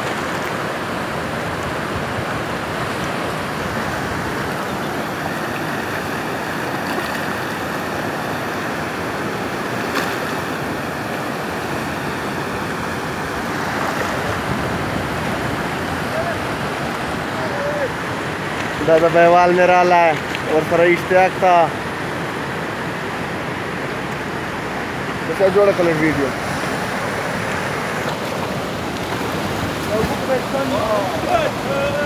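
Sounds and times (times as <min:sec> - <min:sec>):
river rushing over rapids: 0:00.0 - 0:32.0.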